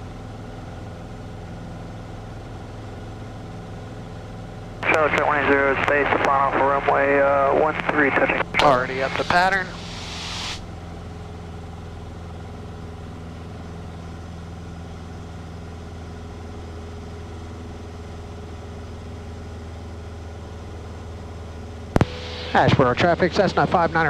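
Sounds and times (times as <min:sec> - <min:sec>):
propeller and airflow noise: 0:00.0 - 0:24.0
aircraft engine droning: 0:00.9 - 0:24.0.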